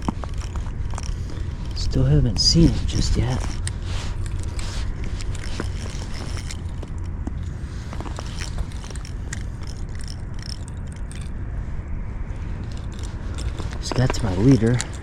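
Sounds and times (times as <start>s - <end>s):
fishing reel clicks and scrapes: 0.0s - 11.4s, 12.6s - 15.0s
steady low rumble: 0.0s - 15.0s.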